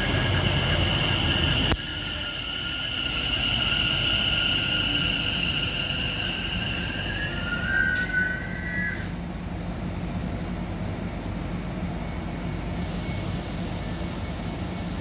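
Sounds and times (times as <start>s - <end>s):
train brakes squealing: 0.0s - 9.2s, 12.0s - 15.0s
train low hum: 0.0s - 15.0s.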